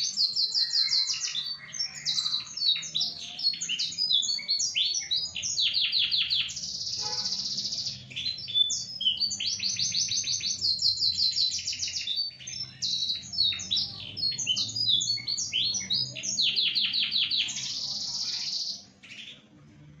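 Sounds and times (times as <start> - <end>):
canary singing trills: 0.0 - 19.5.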